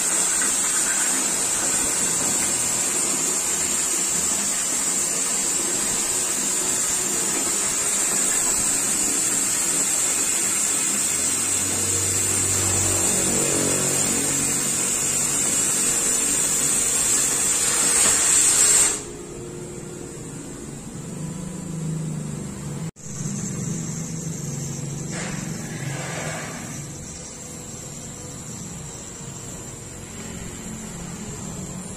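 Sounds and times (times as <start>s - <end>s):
cutting torch hissing: 0.0s - 19.4s, 23.0s - 31.9s.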